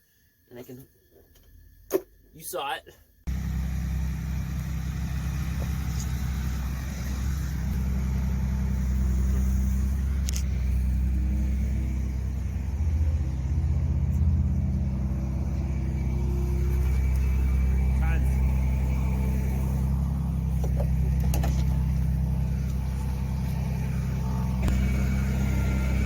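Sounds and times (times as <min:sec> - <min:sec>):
engine running: 0:03.3 - 0:26.0.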